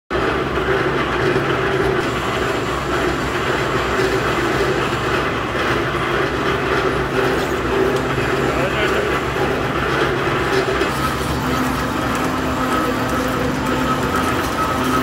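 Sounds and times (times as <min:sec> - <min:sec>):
tyre machine rollers running: 0:00.1 - 0:15.0.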